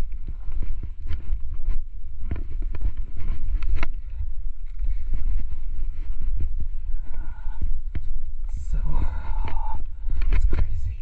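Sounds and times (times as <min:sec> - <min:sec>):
footsteps on rock: 0:00.0 - 0:11.0
wind rumbling on microphone: 0:00.0 - 0:11.0.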